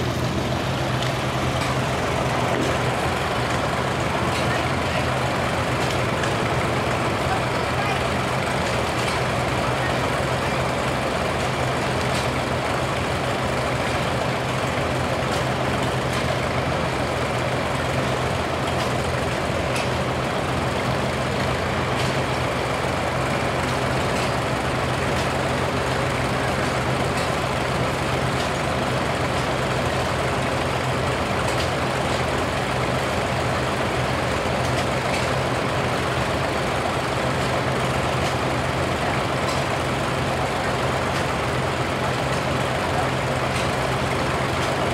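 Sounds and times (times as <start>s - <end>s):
tractor engines idling: 0.0s - 44.9s.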